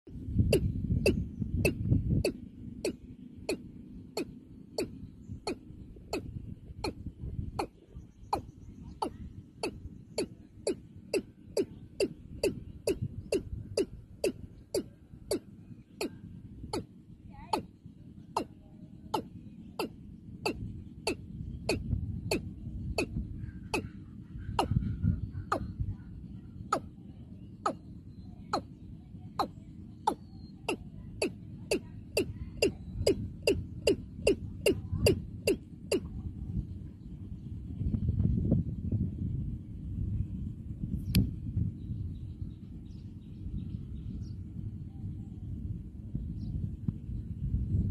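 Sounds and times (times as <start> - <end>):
low rumble: 0.1 - 47.9.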